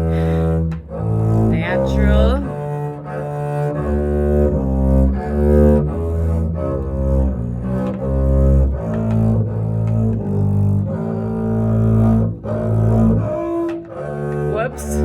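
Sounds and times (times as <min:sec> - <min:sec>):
bowed double bass: 0:00.0 - 0:15.0.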